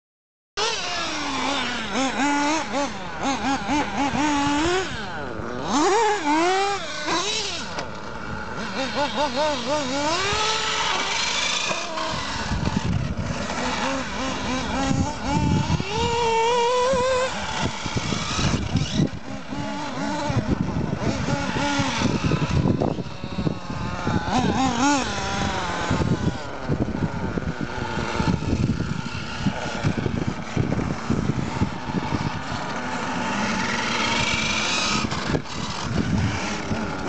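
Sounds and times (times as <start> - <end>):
model car motors whining: 0.6 - 37.0.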